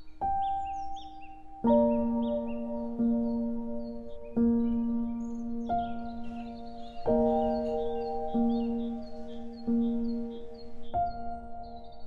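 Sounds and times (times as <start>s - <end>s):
faint bird chirps: 0.0s - 12.0s
soft music of ringing notes: 0.0s - 12.0s.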